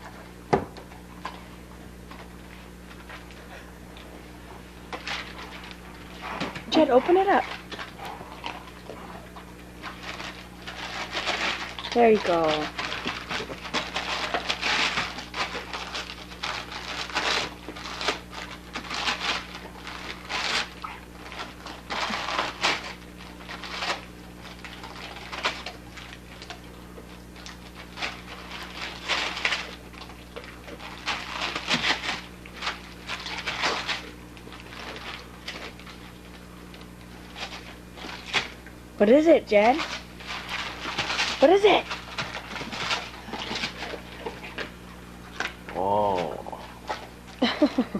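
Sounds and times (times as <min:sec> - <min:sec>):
dog tearing foil wrap: 0:00.8 - 0:47.9.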